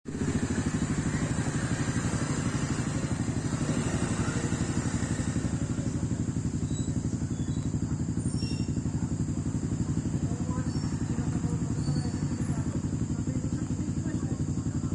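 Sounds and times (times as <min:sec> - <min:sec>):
truck engine idling: 0:00.1 - 0:14.9.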